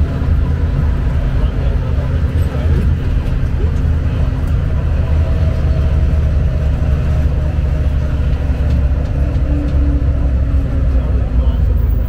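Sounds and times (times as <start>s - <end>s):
road train engine and tyre rumble: 0.0s - 12.0s.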